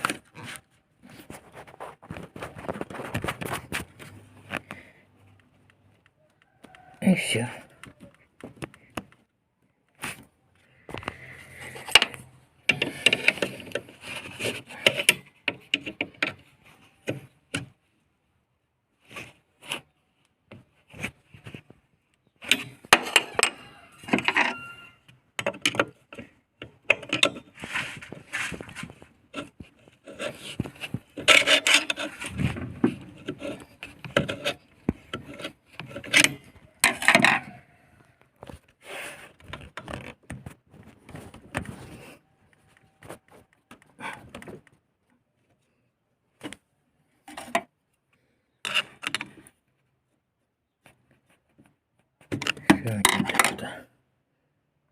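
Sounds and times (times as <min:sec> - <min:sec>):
plastic parts rubbing and scraping: 0:00.0 - 0:09.3, 0:09.9 - 0:18.1, 0:18.9 - 0:47.8, 0:48.5 - 0:49.9, 0:50.8 - 0:53.8.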